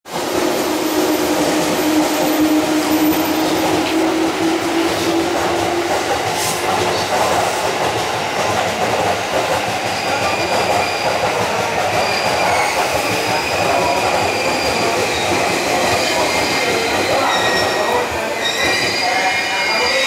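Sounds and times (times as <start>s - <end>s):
train wheels rumbling and clattering: 0.1s - 20.0s.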